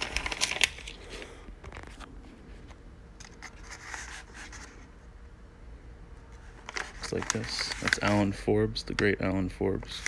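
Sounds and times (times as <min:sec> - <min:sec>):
paper envelope rustling: 0:00.0 - 0:04.9, 0:06.3 - 0:10.0.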